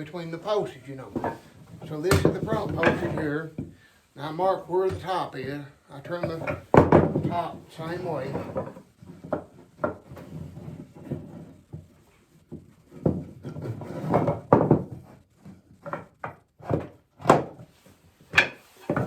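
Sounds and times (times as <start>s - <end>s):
wooden knocks and thunks: 1.0s - 3.8s, 4.8s - 19.0s.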